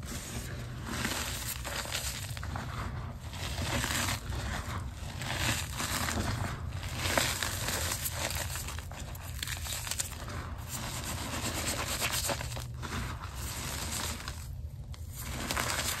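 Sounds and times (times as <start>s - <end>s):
hands crunching chalk: 0.0s - 16.0s.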